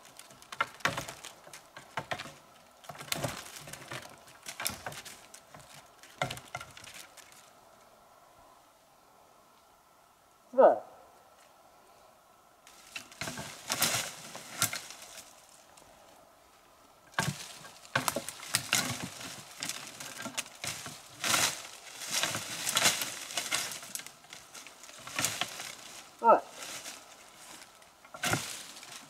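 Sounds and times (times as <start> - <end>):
footsteps through undergrowth: 0.0 - 7.6, 12.6 - 29.0
twigs crackling: 0.0 - 8.3, 12.6 - 29.0
leaves and brush rustling: 0.0 - 29.0.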